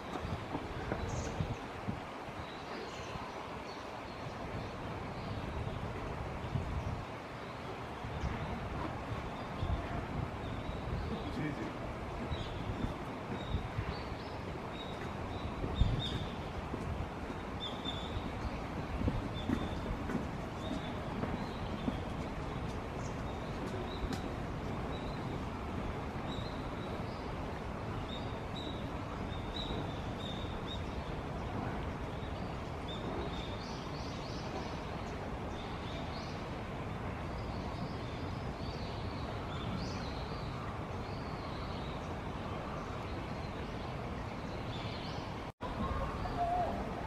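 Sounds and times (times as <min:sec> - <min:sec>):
outdoor background noise: 0:00.0 - 0:47.0.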